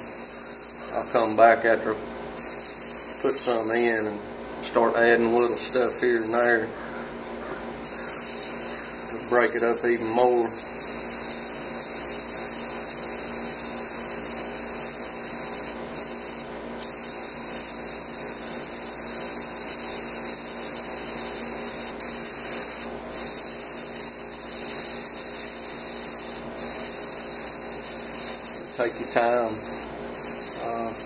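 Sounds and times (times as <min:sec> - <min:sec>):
airbrush spraying hiss: 0:00.0 - 0:01.4, 0:02.4 - 0:04.1, 0:05.4 - 0:06.5, 0:07.8 - 0:31.0.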